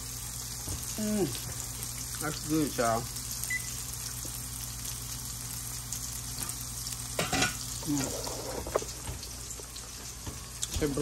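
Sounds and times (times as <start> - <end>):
fish and onions sizzling in oil: 0.0 - 11.0.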